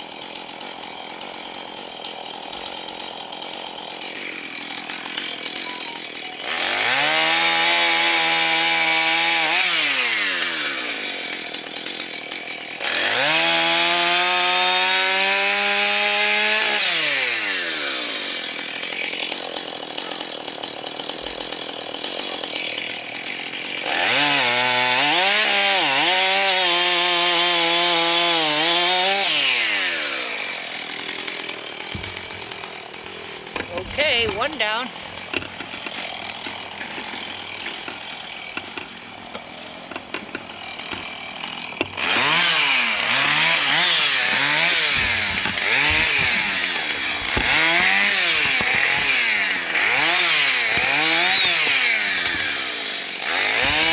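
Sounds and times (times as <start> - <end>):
chainsaw revving and cutting wood: 0.0 - 53.9.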